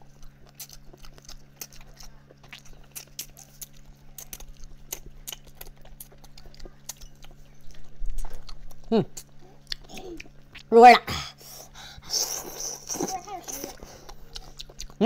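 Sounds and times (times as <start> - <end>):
wet chewing and lip-smacking: 0.0 - 10.7, 11.6 - 15.0
faint low hum: 0.0 - 15.0.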